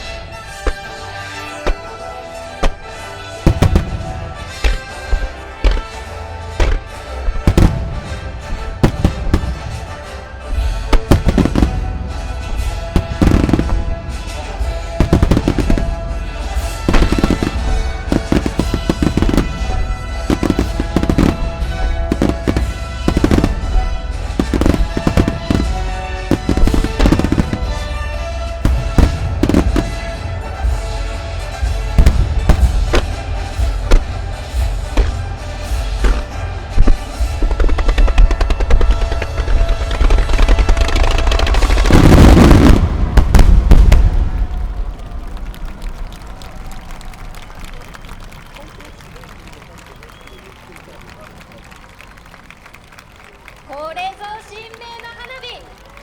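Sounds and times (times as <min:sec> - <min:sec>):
fireworks bursts and booms: 0:00.0 - 0:50.5
music playing: 0:00.0 - 0:56.0.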